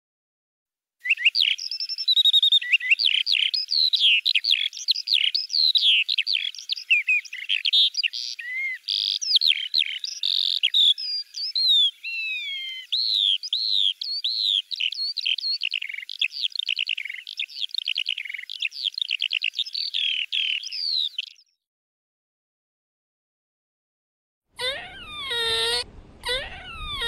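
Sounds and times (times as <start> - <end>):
birds chirping and singing: 1.1 - 21.5, 24.6 - 27.0.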